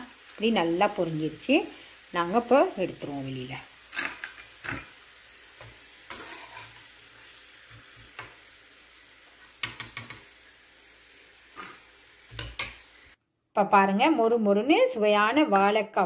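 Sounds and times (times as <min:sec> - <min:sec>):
plantain sizzling in hot oil: 0:00.0 - 0:13.2.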